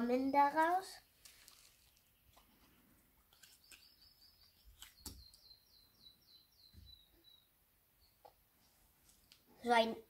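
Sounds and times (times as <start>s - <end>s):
bird chirping: 0.0s - 9.5s.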